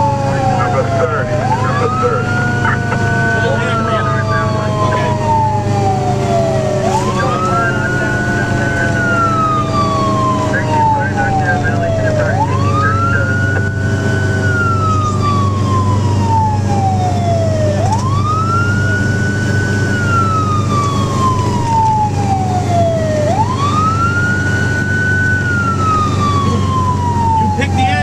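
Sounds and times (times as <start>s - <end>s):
fire engine siren wailing: 0.0s - 28.0s
truck engine drone: 0.0s - 28.0s.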